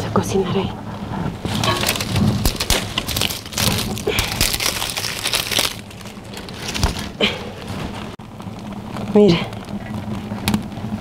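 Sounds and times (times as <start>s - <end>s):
fire crackling: 1.0s - 11.0s
dry leaves rustling: 1.4s - 11.0s.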